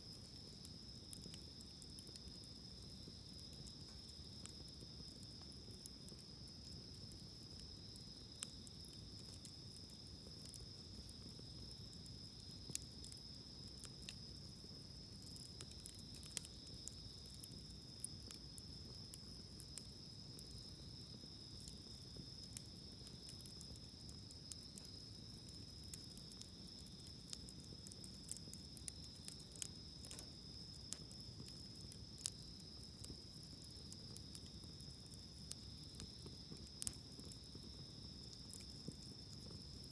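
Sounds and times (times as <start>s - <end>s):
campfire crackling: 0.0s - 39.9s
fire popping: 0.0s - 39.9s
insects trilling: 0.2s - 39.9s.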